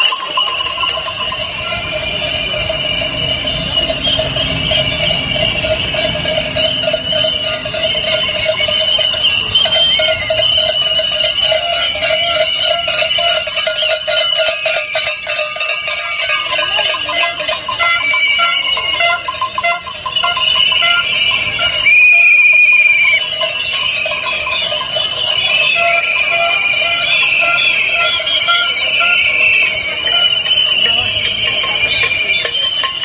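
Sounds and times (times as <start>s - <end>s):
noisemakers ringing clatter: 0.0s - 33.0s.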